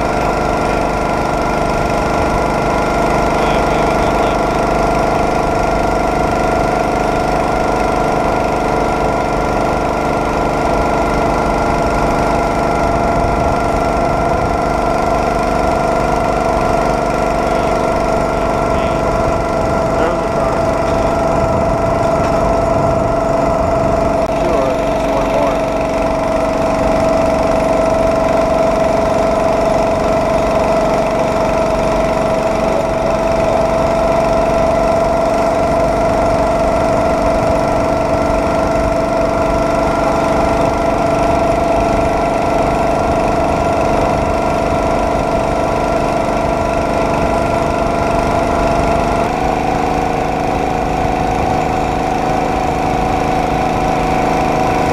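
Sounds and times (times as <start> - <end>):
small gasoline engine running: 0.0 - 54.9.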